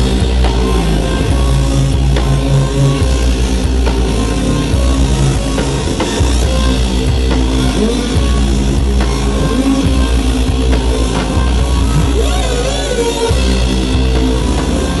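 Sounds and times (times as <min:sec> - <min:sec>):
heavy bass line: 0:00.0 - 0:15.0
live band music: 0:00.0 - 0:15.0.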